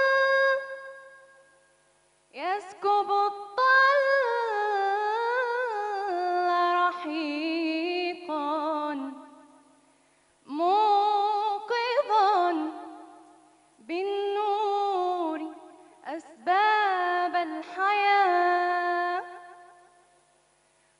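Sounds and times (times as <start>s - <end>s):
woman singing devotional chant: 0.0s - 1.6s, 2.3s - 20.1s.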